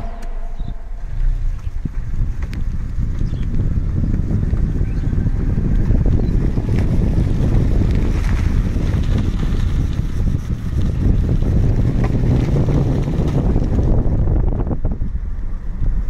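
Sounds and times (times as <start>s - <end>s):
vehicle road and wind rumble: 0.0s - 16.0s
wind buffeting microphone: 0.0s - 16.0s.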